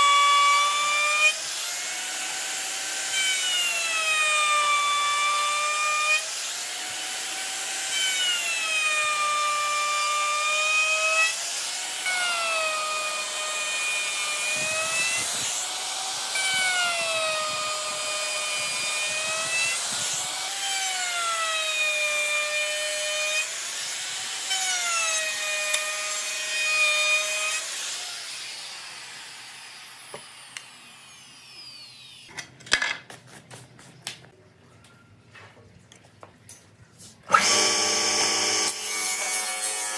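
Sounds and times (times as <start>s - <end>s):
plunge router whining: 0.0s - 32.3s, 37.3s - 39.9s
router bit cutting wood: 0.0s - 32.3s, 37.3s - 39.9s.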